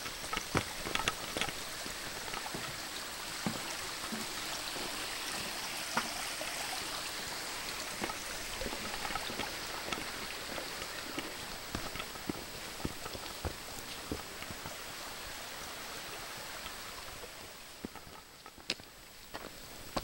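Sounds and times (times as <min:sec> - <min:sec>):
creek trickling over stones: 0:00.0 - 0:20.0.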